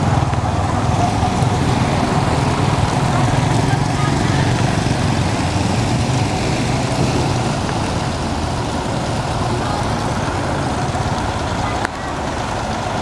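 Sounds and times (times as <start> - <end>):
rain falling on stone: 0.0 - 13.0.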